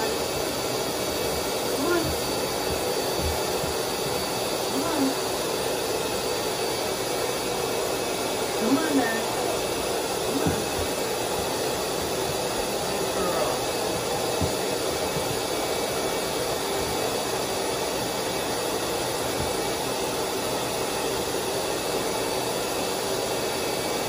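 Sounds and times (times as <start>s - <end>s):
pet dryer blowing: 0.0s - 24.0s.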